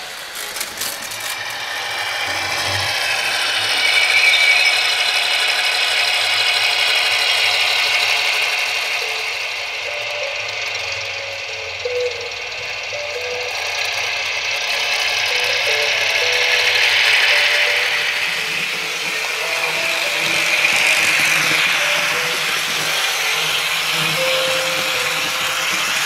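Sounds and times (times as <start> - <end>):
model trains whirring on track: 0.0 - 26.0.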